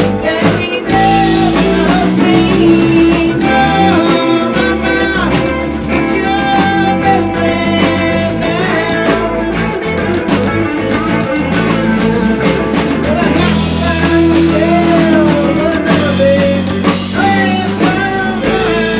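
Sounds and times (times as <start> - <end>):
lead guitar bending notes: 0.0 - 18.9
rock band playing: 0.0 - 18.9.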